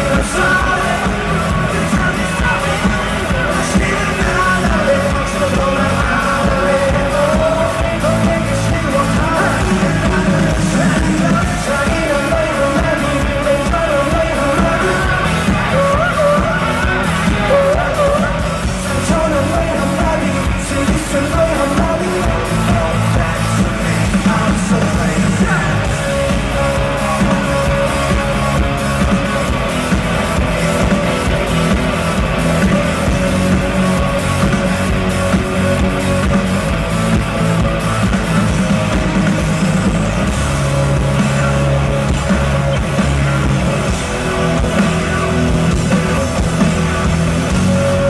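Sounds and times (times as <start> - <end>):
live rock band with singing: 0.0 - 48.0.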